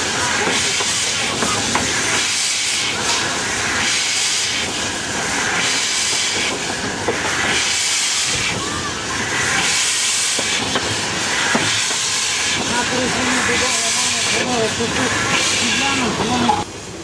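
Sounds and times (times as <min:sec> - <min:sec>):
train rolling on track: 0:00.0 - 0:17.0.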